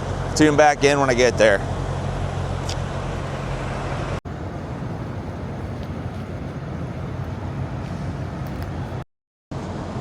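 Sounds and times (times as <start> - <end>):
truck engines idling: 0.0 - 9.0
traffic noise: 0.0 - 10.0.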